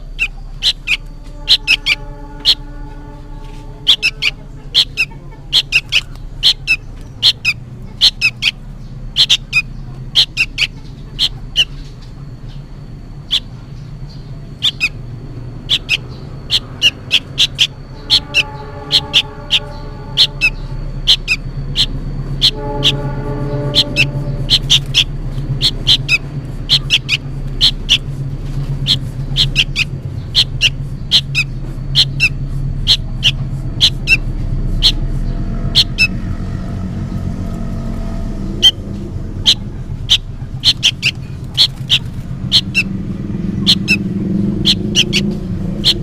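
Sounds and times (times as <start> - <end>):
bird giving sharp high calls: 0.0 - 46.0
steady low hum: 0.0 - 46.0.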